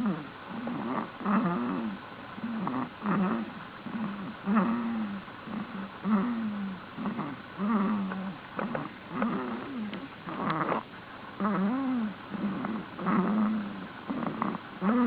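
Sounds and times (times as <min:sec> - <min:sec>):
short snores with wavering pitch: 0:00.0 - 0:10.8, 0:11.4 - 0:15.0.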